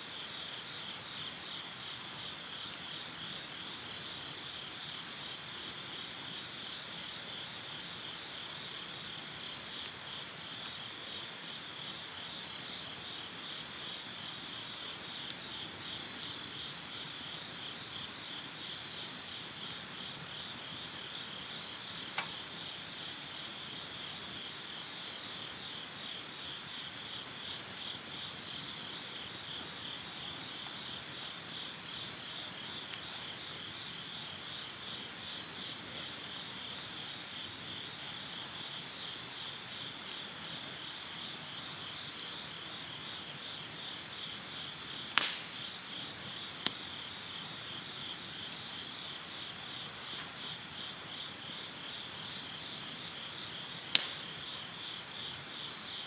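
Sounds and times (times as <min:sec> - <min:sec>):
insects chirping: 0:00.2 - 0:56.0.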